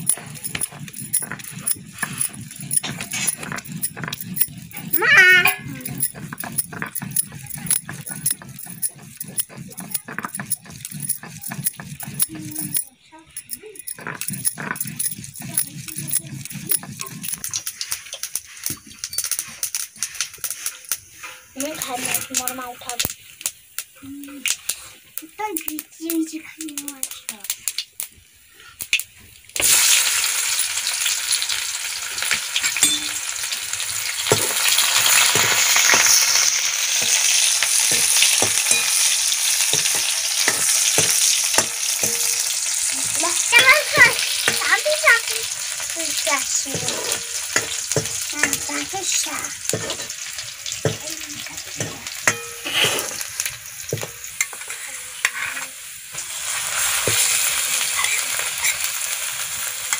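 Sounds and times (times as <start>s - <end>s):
spoon scraping a pan: 0.0s - 24.0s, 29.6s - 59.9s
oil sizzling in a pan: 0.0s - 59.9s.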